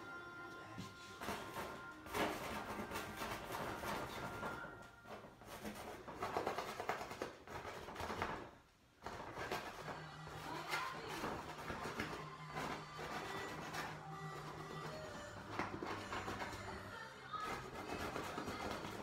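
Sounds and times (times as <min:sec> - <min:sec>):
paint scrubbing on canvas: 0:00.9 - 0:19.0.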